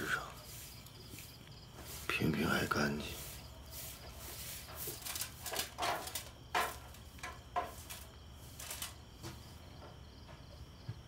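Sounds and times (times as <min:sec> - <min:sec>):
broom sweeping a floor: 0:00.0 - 0:10.0.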